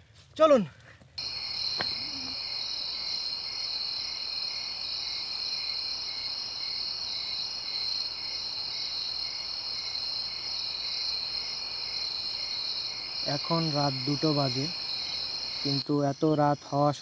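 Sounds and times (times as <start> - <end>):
insects trilling: 1.2 - 17.0.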